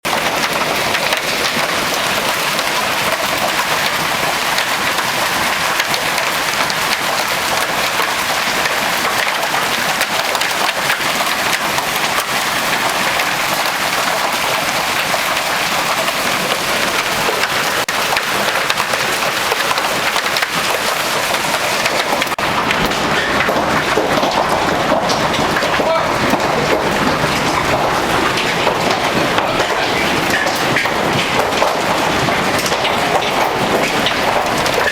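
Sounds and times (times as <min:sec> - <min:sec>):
hail and rain clattering: 0:00.0 - 0:34.9.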